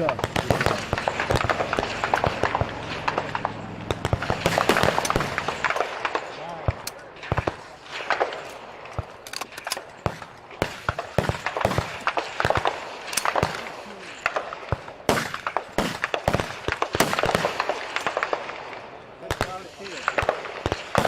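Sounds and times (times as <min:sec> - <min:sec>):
rifle shots with echoes: 0:00.0 - 0:21.0.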